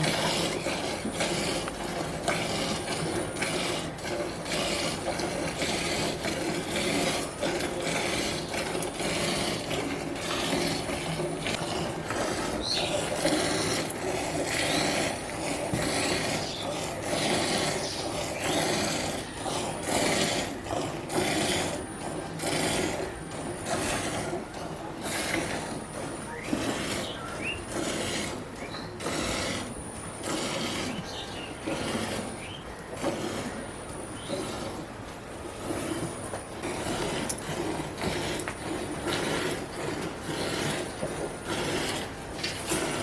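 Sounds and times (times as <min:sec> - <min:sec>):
milk squirting into pail: 0:00.0 - 0:43.0.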